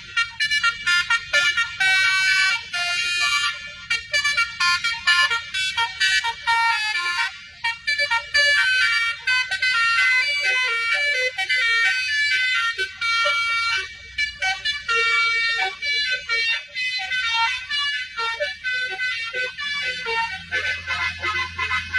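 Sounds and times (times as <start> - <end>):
multi-tone bus horn tune: 0.0 - 21.9.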